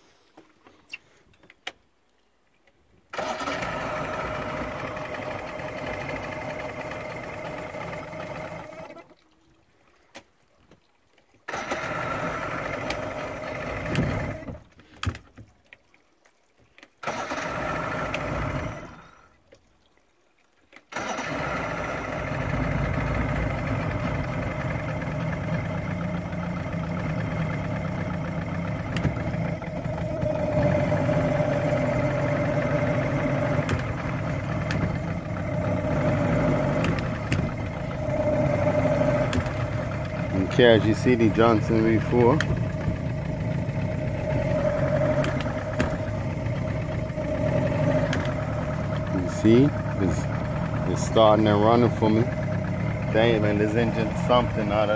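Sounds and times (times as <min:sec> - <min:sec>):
outboard motor running: 0:03.1 - 0:09.3, 0:11.4 - 0:15.4, 0:17.0 - 0:19.4, 0:20.8 - 0:54.9.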